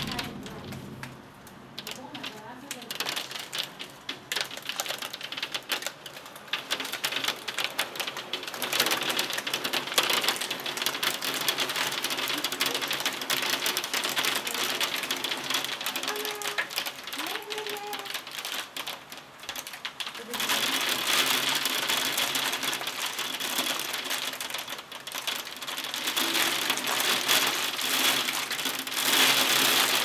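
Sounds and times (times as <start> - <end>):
hail clattering on window: 0.0 - 30.0
heavy rain: 0.0 - 30.0.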